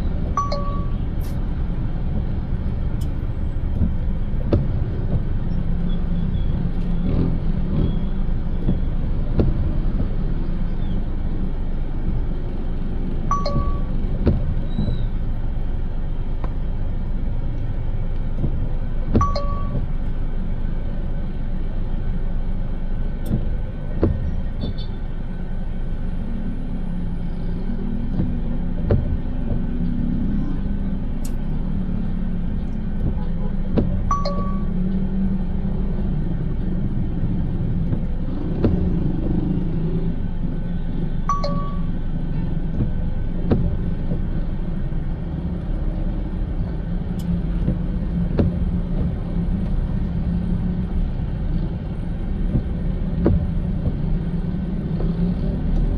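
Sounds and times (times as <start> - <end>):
car road rumble from inside: 0.0 - 55.9.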